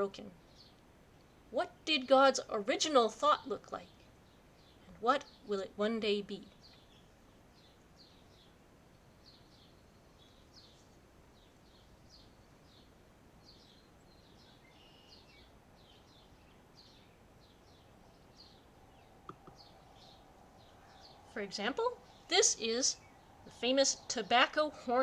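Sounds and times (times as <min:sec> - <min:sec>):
bird chirping: 0:00.0 - 0:25.0
low background hiss: 0:00.0 - 0:25.0.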